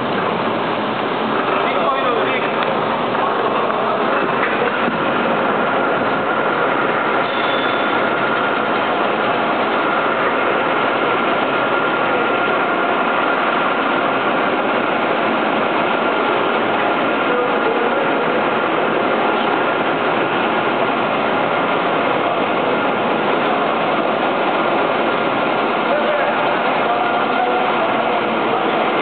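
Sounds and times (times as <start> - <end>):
machinery rushing noise: 0.0 - 29.0.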